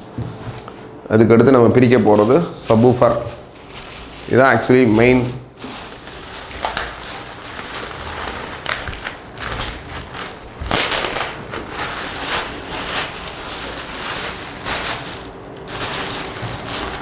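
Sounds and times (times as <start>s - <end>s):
plastic bag crinkling: 1.8s - 17.0s.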